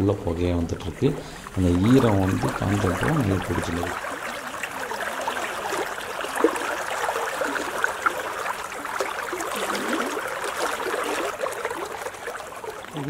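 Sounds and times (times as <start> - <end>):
river water rippling: 0.0 - 13.0.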